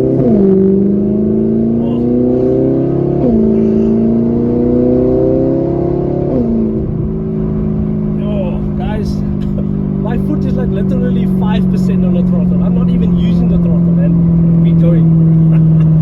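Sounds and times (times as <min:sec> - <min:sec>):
car engine accelerating through gears: 0:00.0 - 0:16.0.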